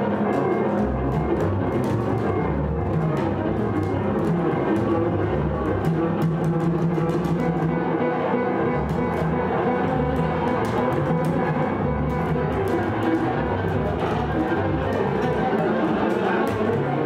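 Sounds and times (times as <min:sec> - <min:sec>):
piano viola and double bass trio: 0:00.0 - 0:17.0.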